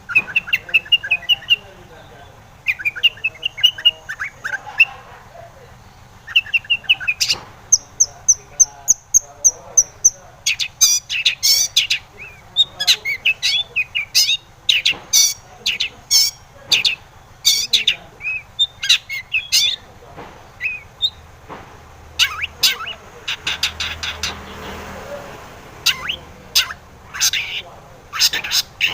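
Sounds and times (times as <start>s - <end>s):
bird singing sharp chirps: 0.0s - 4.9s, 5.8s - 21.4s, 22.2s - 25.0s, 25.8s - 28.9s.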